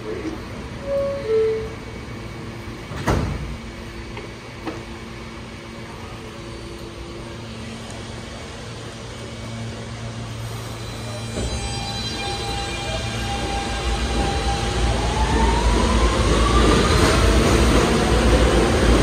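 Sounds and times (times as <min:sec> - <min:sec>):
train steady hum: 0:00.0 - 0:19.0.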